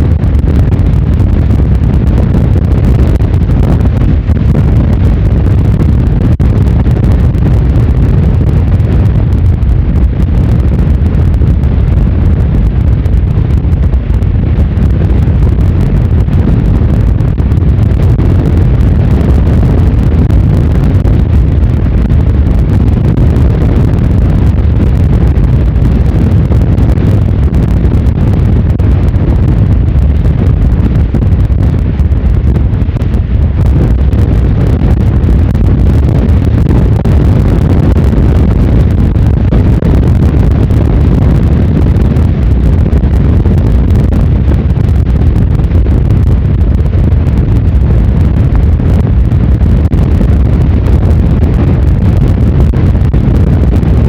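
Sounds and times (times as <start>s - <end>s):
strong wind buffeting microphone: 0.0s - 54.0s.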